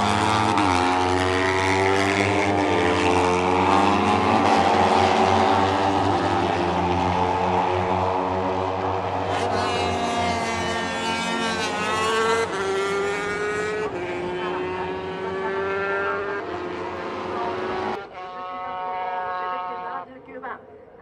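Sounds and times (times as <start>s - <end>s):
racing motorcycles at full throttle: 0.0s - 20.1s.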